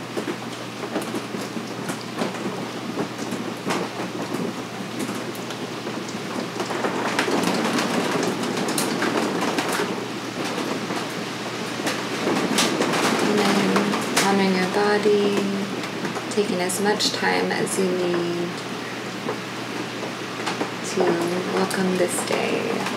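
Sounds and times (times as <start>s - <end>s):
rain-like patter with ticks: 0.0s - 22.9s.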